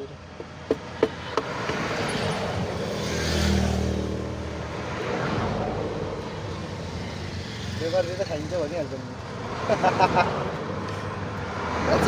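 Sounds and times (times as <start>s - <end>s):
vehicle passing on road: 0.2s - 12.0s.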